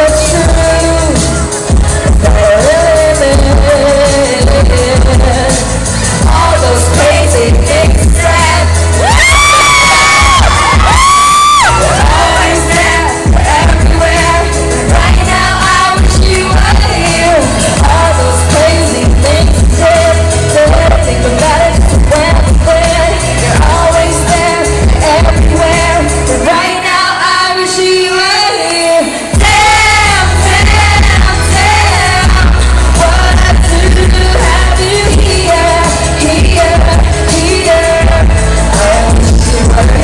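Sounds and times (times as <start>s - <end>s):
loud amplified band accompaniment: 0.0s - 40.0s
person singing pop song live: 0.0s - 40.0s.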